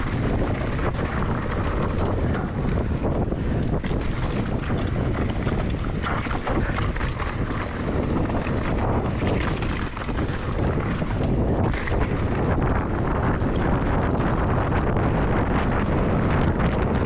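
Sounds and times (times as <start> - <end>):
bike rattling and knocking: 0.0 - 17.0
tyres rumbling on dirt: 0.0 - 17.0
wind buffeting microphone: 0.0 - 17.0.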